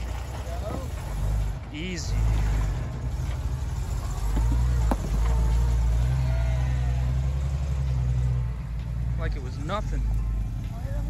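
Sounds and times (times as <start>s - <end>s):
vehicle engine running low: 0.0s - 11.0s.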